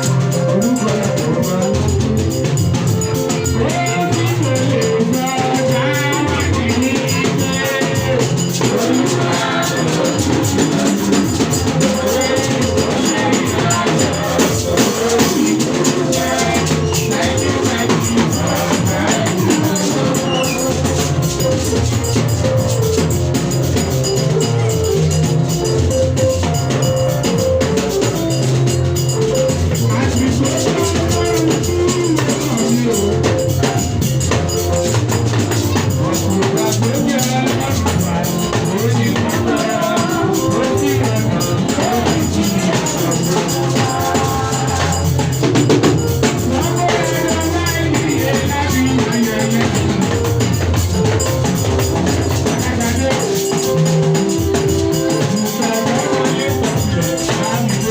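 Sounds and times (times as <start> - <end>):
drum kit beat: 0.0 - 57.9.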